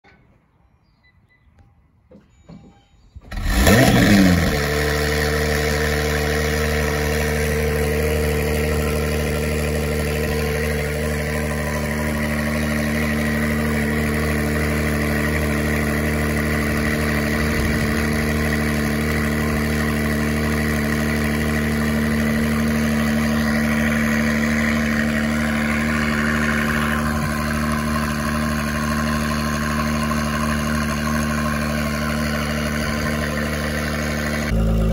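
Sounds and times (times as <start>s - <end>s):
car engine starting and idling: 3.2s - 34.9s.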